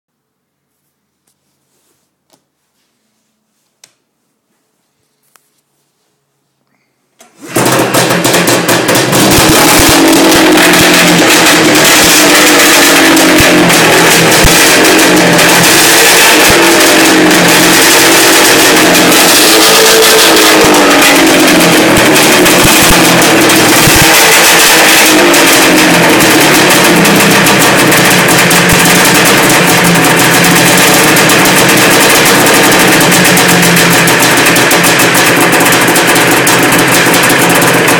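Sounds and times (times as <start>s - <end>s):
snowmobile engine starting and running: 7.2s - 37.9s.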